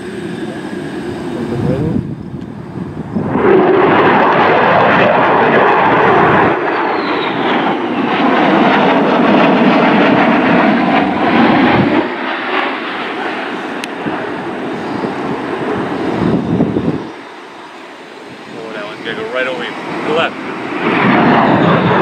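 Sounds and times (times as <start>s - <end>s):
fighter jet flying overhead: 0.0s - 22.0s
jet whine falling in pitch: 0.0s - 22.0s.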